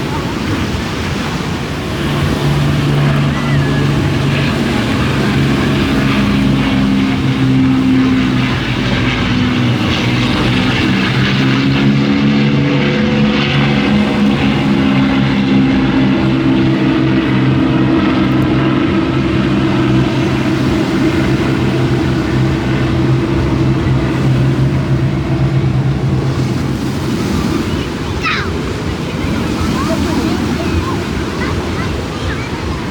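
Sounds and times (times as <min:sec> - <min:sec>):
propeller aircraft flying over: 0:00.0 - 0:32.9.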